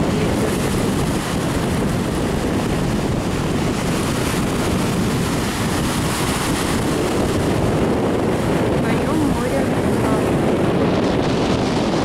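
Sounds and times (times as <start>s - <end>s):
waves washing onto sandy beach: 0.0s - 12.0s
wind buffeting microphone: 0.0s - 12.0s.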